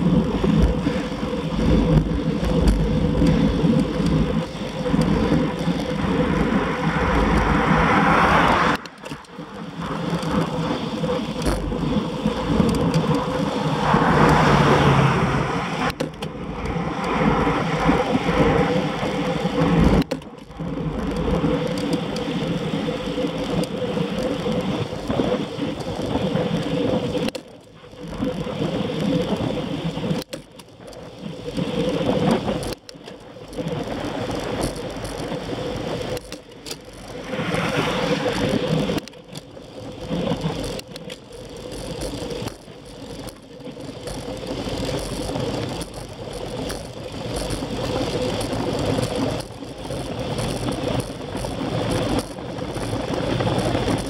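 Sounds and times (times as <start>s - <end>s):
wind rushing over microphone: 0.0s - 27.4s, 31.2s - 54.0s
wheels rolling on rough asphalt: 0.0s - 54.0s.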